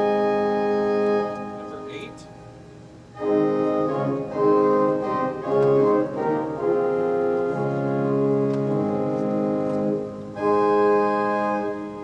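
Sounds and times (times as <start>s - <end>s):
pipe organ chords: 0.0s - 12.0s.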